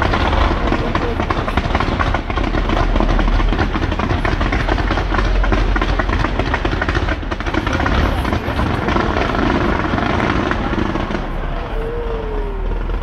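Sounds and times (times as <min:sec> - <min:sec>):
deep rumble: 0:00.0 - 0:13.0
fireworks crackling and popping: 0:00.0 - 0:13.0.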